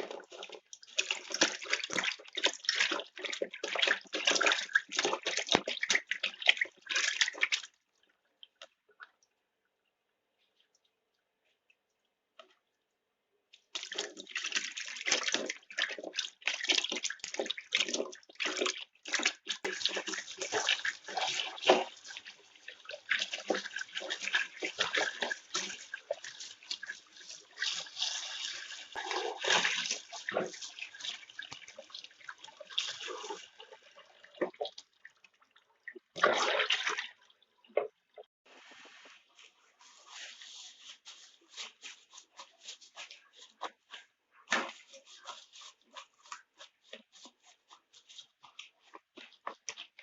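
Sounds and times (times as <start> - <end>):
water running and splashing: 0.0 - 8.8, 13.6 - 37.7, 38.5 - 50.0.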